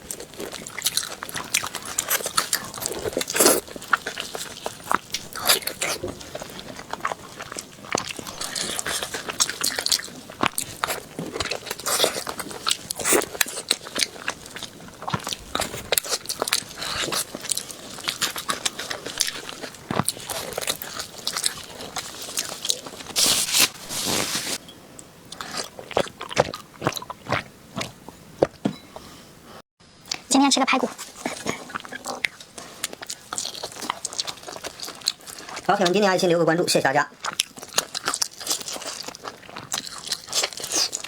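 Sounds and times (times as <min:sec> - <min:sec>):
crunching and chewing crisp food: 0:00.0 - 0:24.6, 0:25.3 - 0:28.6, 0:30.0 - 0:41.0.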